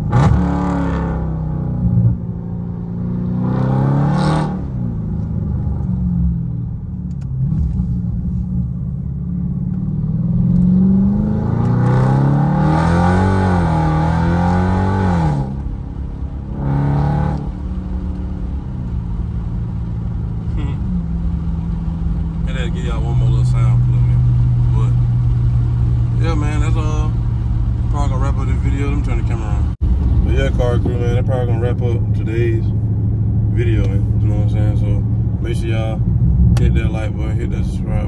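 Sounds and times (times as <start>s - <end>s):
loud car engine revving: 0.0s - 6.4s, 9.7s - 38.0s.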